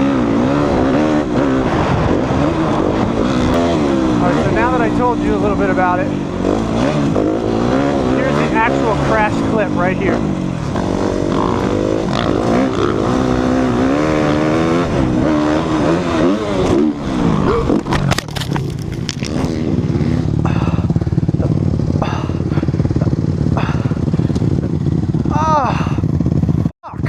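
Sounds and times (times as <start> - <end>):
dirt bike engine revving: 0.0 - 26.7.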